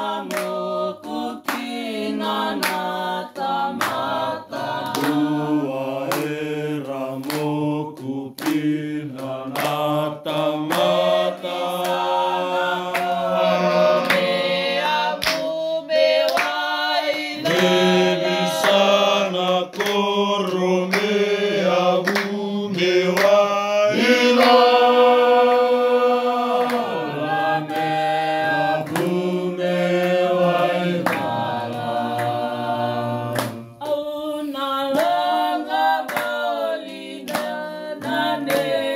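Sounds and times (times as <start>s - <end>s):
choir singing in harmony: 0.0s - 38.9s.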